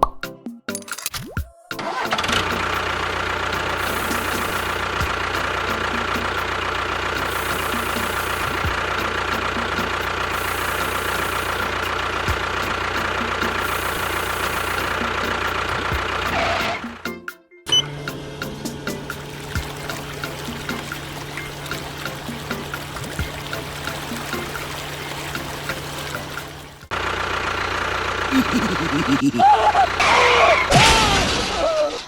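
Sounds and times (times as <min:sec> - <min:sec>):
motor humming: 0:01.8 - 0:17.0, 0:17.7 - 0:31.1.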